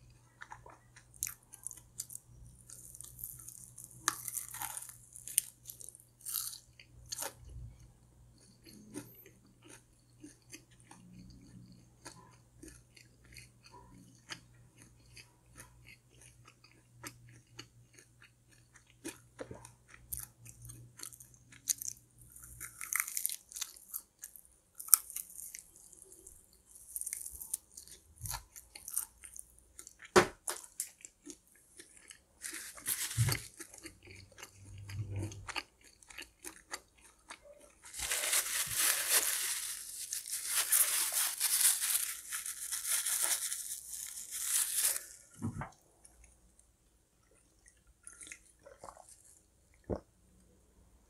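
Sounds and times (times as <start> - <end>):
crunchy food chewing: 0.0 - 46.4.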